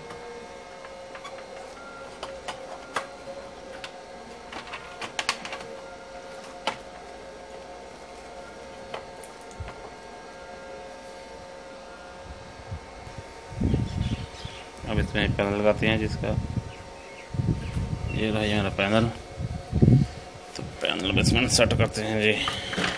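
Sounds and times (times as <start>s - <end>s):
faint electrical hum: 0.0s - 22.9s.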